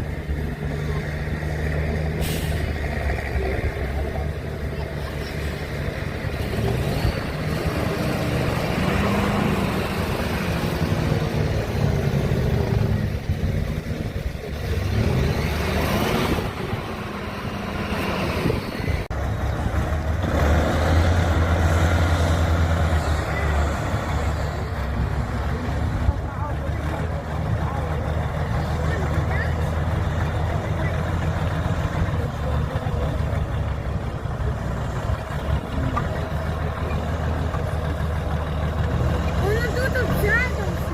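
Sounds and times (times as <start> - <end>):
truck engine revving under load: 0.0 - 40.9.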